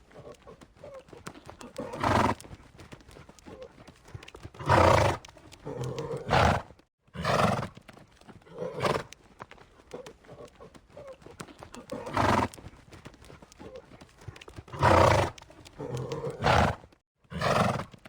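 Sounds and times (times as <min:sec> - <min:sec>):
hoof clip-clops: 0:00.0 - 0:18.0.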